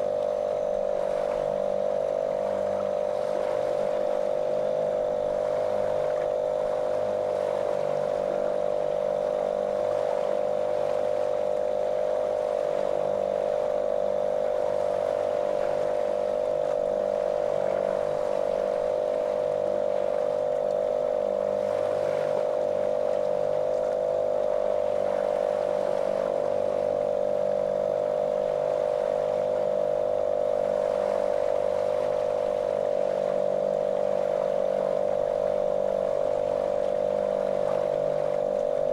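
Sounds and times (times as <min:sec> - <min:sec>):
motorboat engine droning: 0:00.0 - 0:38.9.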